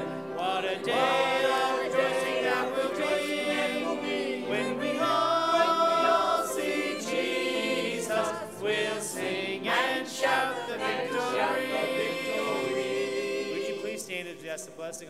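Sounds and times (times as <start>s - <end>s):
choir singing a hymn: 0.0s - 14.4s.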